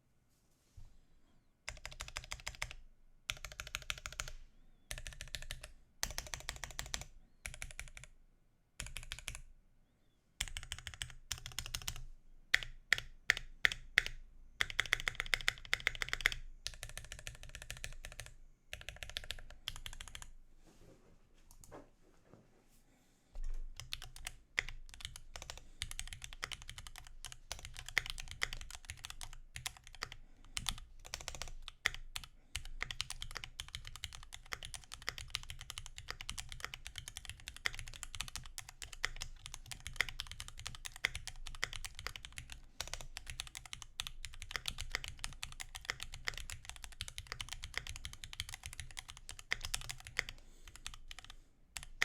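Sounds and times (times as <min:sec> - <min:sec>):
mechanical keyboard typing: 0:01.7 - 0:08.1, 0:08.8 - 0:09.4, 0:10.4 - 0:20.3, 0:23.7 - 0:52.0.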